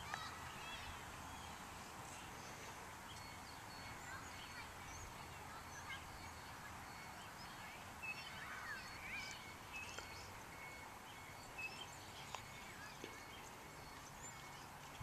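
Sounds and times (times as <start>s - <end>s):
faint steady outdoor hiss: 0.0s - 15.0s
birds chirping and calling: 0.1s - 15.0s.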